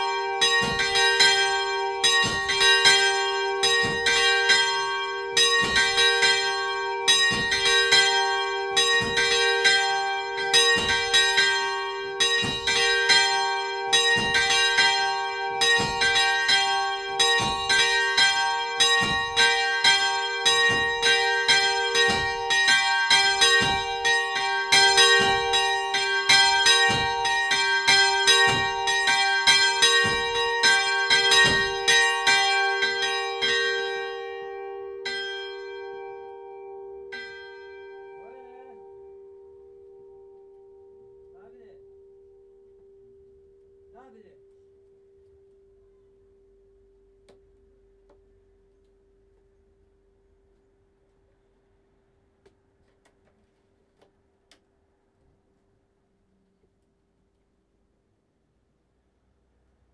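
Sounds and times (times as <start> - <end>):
church bells ringing: 0.0 - 51.6.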